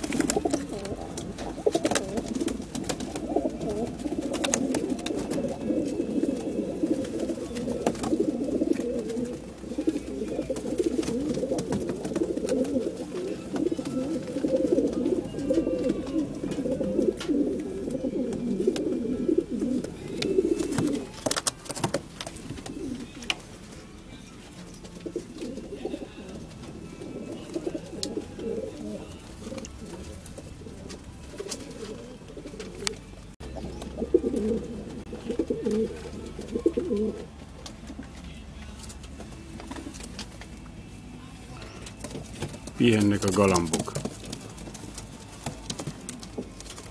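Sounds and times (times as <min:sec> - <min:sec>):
pigeons cooing: 0:00.0 - 0:38.2, 0:41.6 - 0:46.9.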